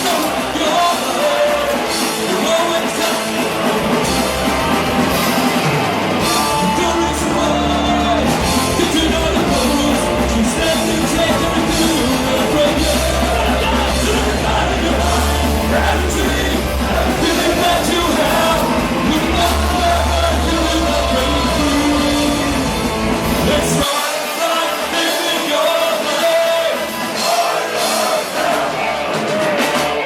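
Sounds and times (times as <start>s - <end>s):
punk band playing live: 0.0s - 30.0s.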